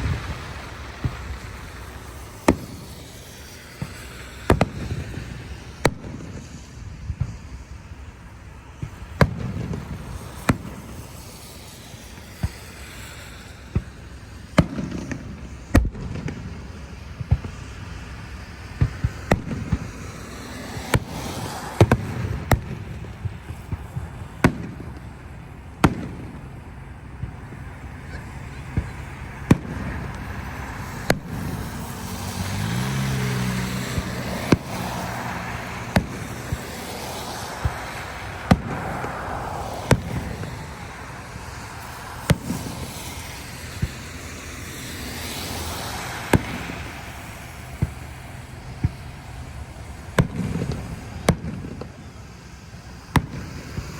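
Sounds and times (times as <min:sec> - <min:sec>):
fireworks banging: 0:00.0 - 0:53.9
steady background hiss: 0:00.0 - 0:53.9.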